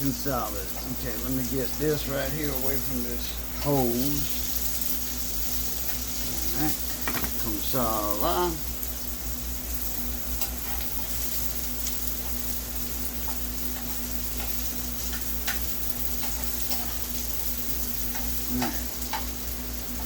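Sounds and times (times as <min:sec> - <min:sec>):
low electrical hum: 0:00.0 - 0:20.0
steady hiss: 0:00.0 - 0:20.0.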